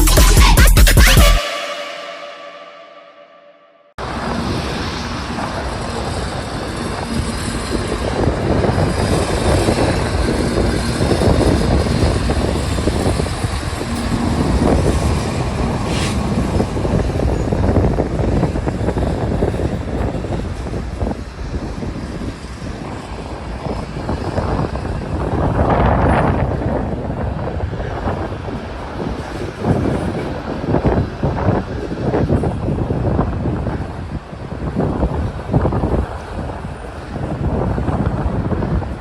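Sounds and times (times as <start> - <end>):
train wheels rumbling on rails: 4.0 - 39.0.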